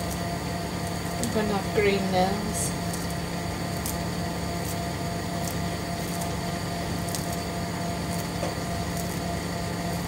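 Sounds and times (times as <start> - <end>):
machine hum with high whine: 0.0 - 10.0.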